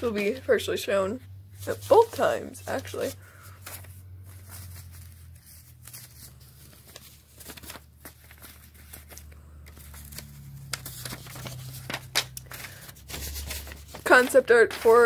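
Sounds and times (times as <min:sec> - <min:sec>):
paper rustling and crinkling: 0:00.0 - 0:00.8, 0:01.5 - 0:15.0.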